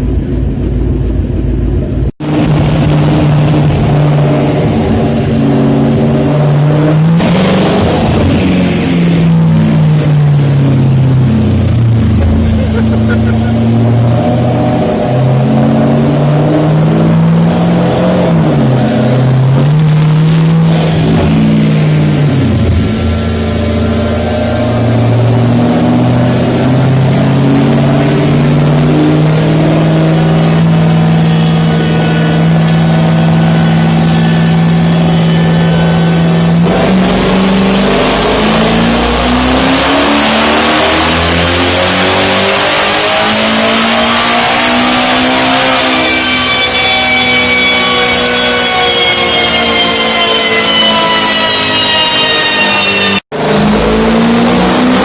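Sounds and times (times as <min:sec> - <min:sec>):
high turbo whine: 0:00.0 - 0:55.0
car engine revving on dyno: 0:02.1 - 0:55.0.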